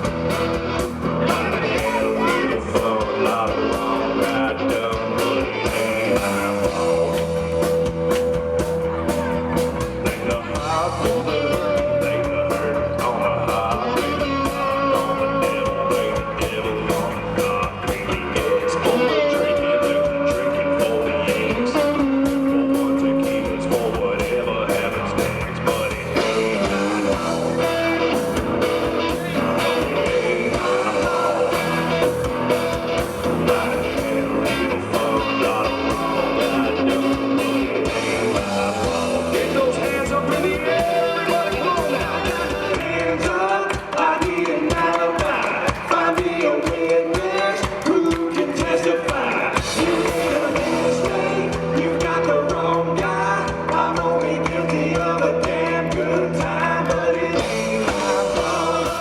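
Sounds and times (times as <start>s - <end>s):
blues-rock band playing: 0.0s - 59.0s
electric guitar: 0.0s - 59.0s.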